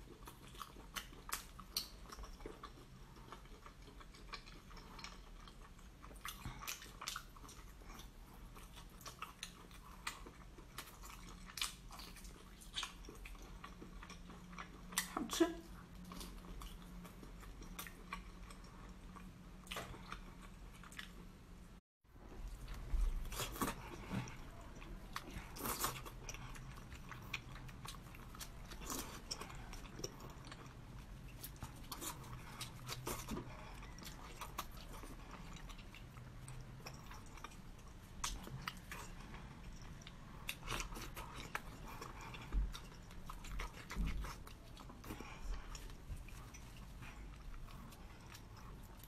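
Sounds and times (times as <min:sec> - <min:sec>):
wet chewing and biting: 0:00.0 - 0:15.2, 0:22.5 - 0:49.0.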